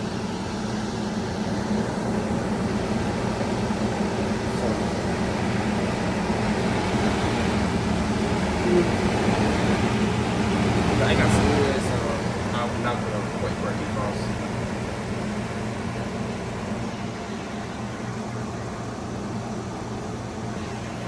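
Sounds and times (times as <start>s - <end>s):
constant low hum: 0.0s - 21.0s
heat pump fan blowing: 0.0s - 21.0s.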